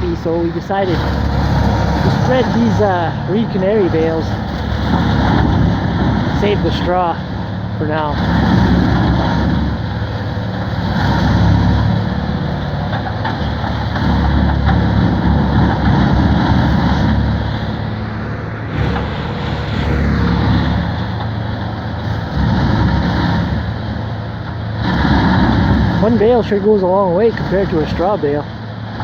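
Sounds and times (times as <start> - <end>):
bale processor shredding: 0.0 - 29.0
tractor diesel engine under load: 0.0 - 29.0.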